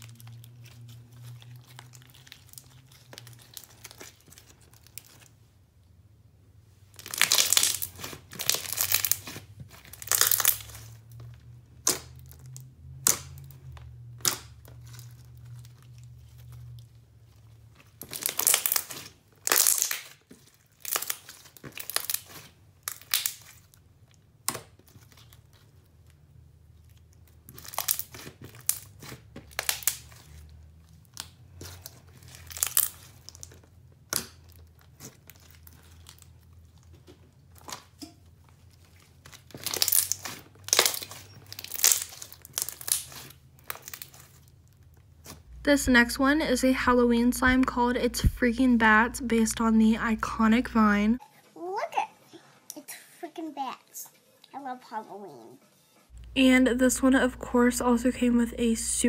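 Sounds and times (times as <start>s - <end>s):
sticky slime crackling: 0.0s - 5.4s, 6.8s - 51.2s.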